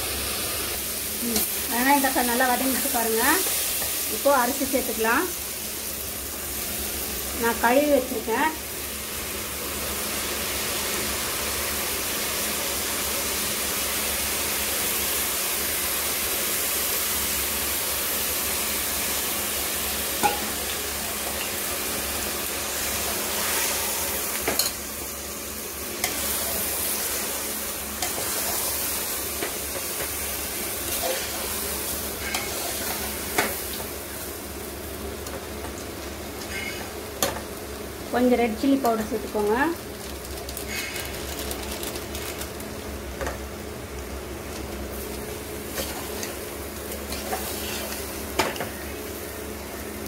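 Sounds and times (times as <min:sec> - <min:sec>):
food sizzling in hot oil: 0:00.0 - 0:50.0.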